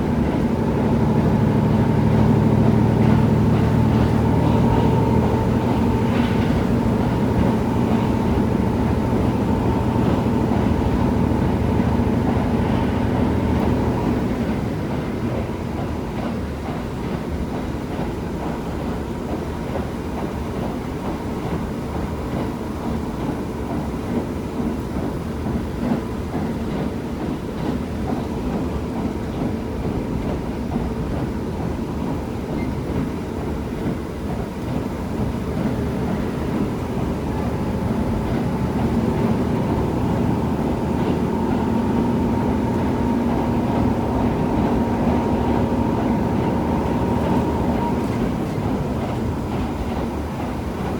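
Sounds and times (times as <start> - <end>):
diesel railcar engine drone: 0.0 - 50.9.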